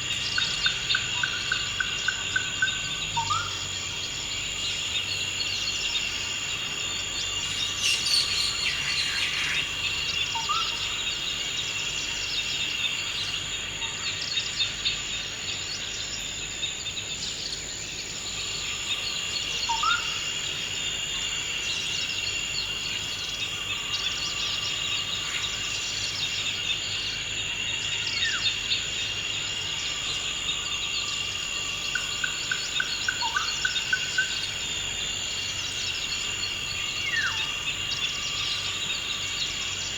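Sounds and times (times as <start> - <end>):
high insect trill: 0.0 - 39.9.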